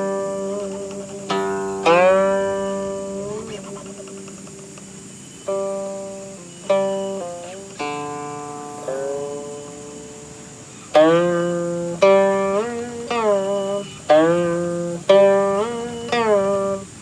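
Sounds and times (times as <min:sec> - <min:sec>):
plucked zither notes: 0:00.0 - 0:17.0.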